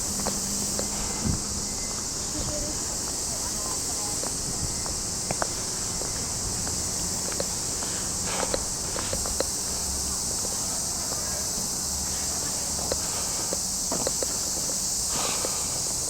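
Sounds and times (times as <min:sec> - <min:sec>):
cicadas chorus: 0:00.0 - 0:16.0
footsteps on a path: 0:00.0 - 0:16.0.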